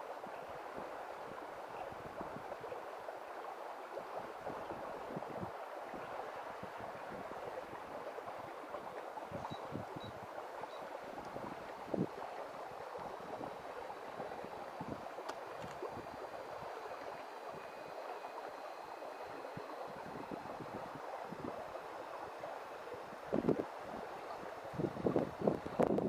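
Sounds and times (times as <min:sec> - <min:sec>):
thin high mechanical whine: 0:00.0 - 0:26.0.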